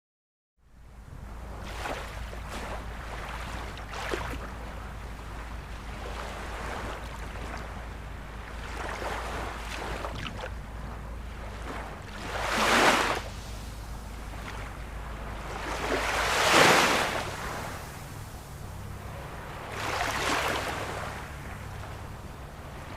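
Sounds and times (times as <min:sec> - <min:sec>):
low rumble: 0:00.7 - 0:22.9
waves surging in: 0:00.8 - 0:22.9
ocean surf washing: 0:00.9 - 0:22.9.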